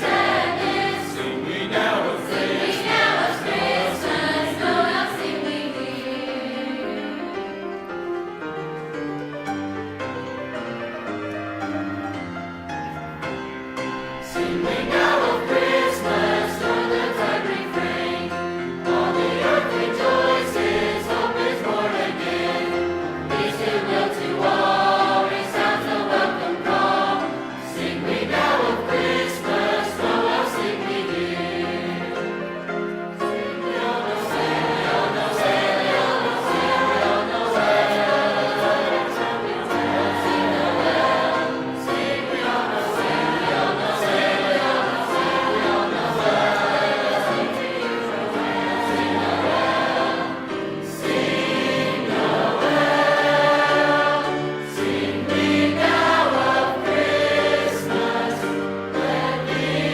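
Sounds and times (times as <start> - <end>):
choir singing: 0.0 - 8.9, 13.1 - 59.9
instrumental accompaniment: 0.0 - 59.9.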